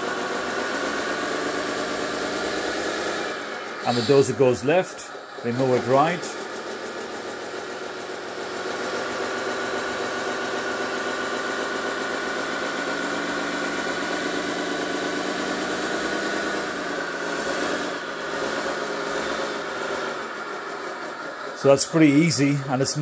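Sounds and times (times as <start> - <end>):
simulated diesel engine sound: 0.0 - 23.0.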